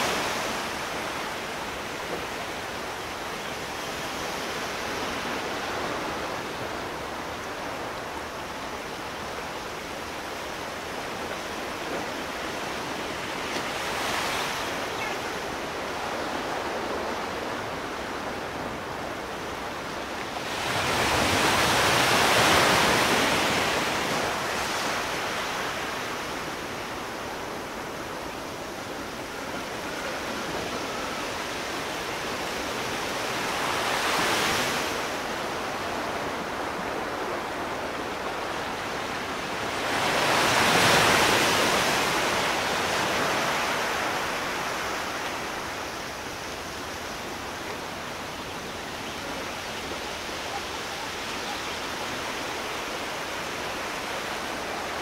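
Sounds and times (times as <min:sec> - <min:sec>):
ocean waves: 0:00.0 - 0:55.0.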